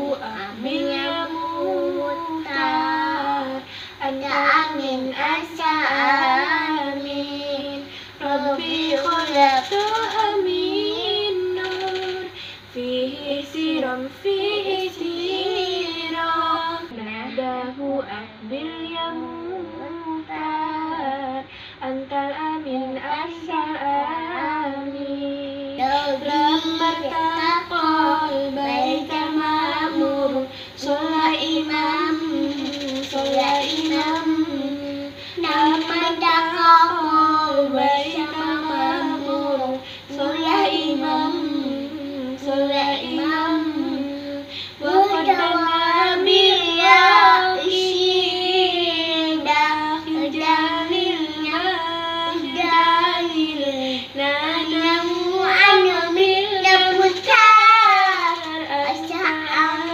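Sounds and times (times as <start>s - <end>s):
girl and woman singing: 0.0s - 59.9s.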